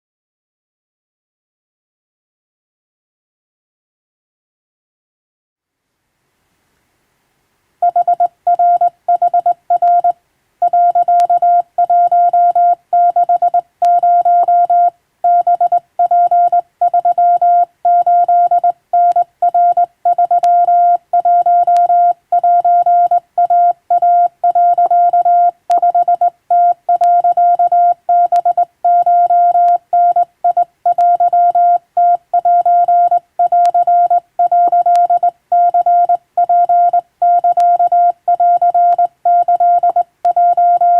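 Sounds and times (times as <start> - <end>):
morse code tone: 7.8 - 40.9.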